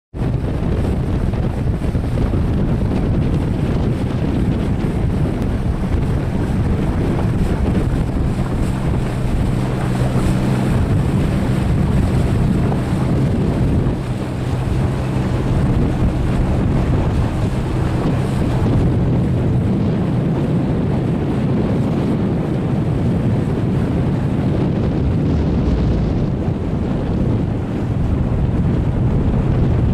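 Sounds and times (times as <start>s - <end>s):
wind buffeting microphone: 0.1s - 29.9s
boat engine drone: 0.2s - 29.9s
water rushing past hull: 0.2s - 29.9s.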